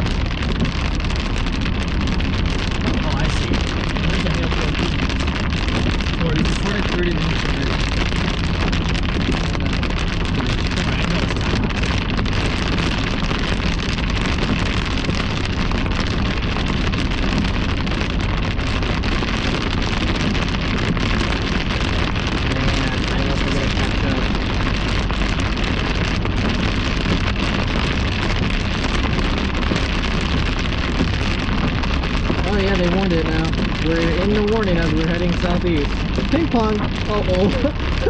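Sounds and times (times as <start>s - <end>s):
car driving tyres and wind: 0.0s - 38.0s
rain pattering on car: 0.0s - 38.0s.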